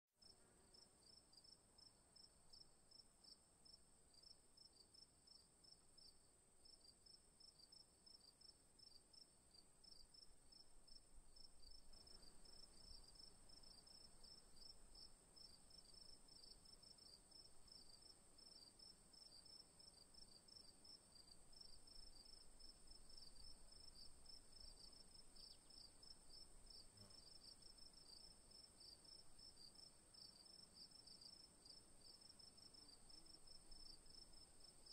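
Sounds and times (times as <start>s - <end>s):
insect chirps: 0.2s - 34.9s.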